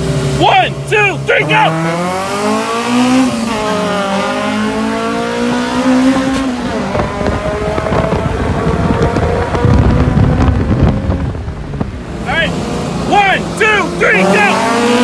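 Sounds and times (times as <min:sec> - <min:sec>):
race car engines accelerating: 0:00.0 - 0:15.0.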